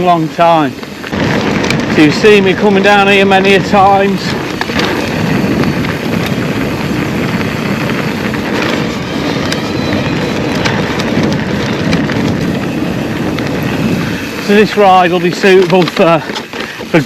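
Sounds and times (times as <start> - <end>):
bike rattling clicks and knocks: 0.0 - 17.0
tyres rumbling over rough trail: 0.0 - 17.0
wind rushing over microphone: 0.0 - 17.0.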